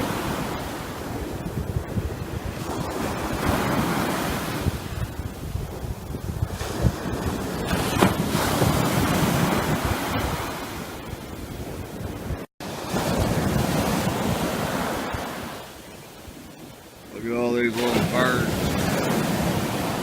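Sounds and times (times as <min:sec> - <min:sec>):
ocean waves breaking: 0:00.0 - 0:20.0
wind buffeting microphone: 0:00.0 - 0:20.0.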